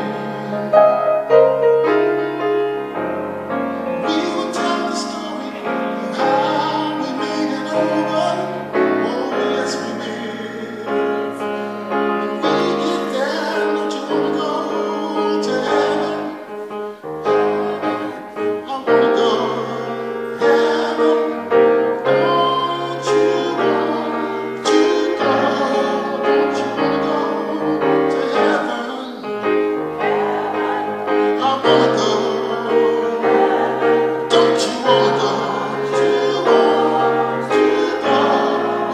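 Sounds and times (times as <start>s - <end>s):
grand piano chords: 0.0s - 38.9s
man singing into a microphone: 4.0s - 29.7s, 31.1s - 38.9s.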